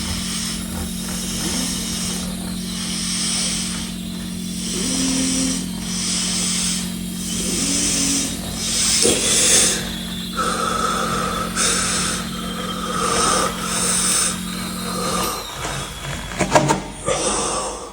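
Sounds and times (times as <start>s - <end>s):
loud hissing: 0.0s - 17.9s
microwave oven humming: 0.0s - 17.9s.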